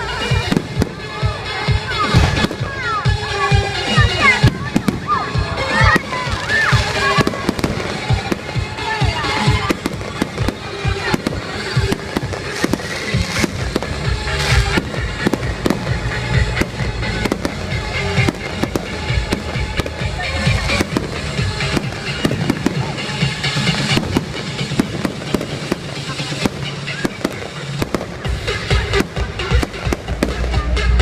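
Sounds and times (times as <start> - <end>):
fireworks bangs and crackling: 0.0 - 31.0
music playing: 0.0 - 31.0.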